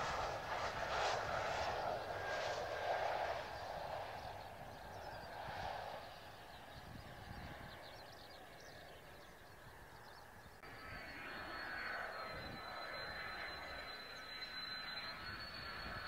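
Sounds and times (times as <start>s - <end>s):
distant jet rumble: 0.0s - 16.0s
jet engine whine: 0.0s - 16.0s.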